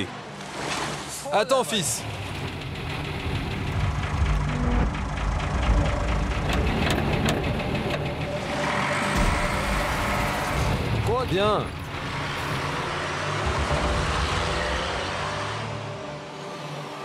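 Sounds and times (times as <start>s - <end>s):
truck engine running: 2.0s - 16.0s.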